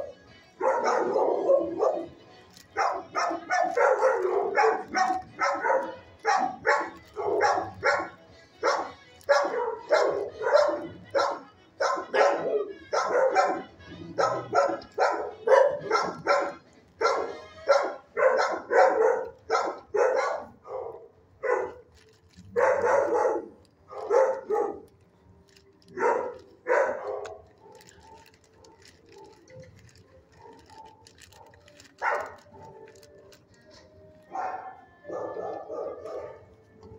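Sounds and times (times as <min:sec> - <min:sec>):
dogs barking: 0:00.0 - 0:36.9.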